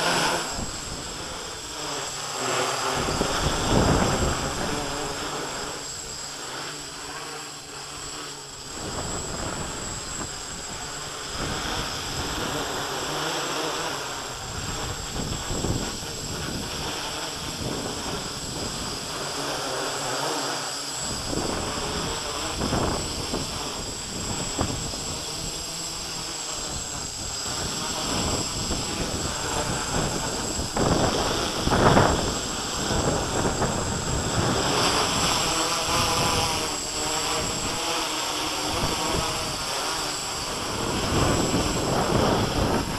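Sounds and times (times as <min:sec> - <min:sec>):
wind buffeting microphone: 0:00.0 - 0:06.3, 0:08.0 - 0:19.5, 0:21.0 - 0:42.9
quadcopter propellers buzzing: 0:00.0 - 0:42.9.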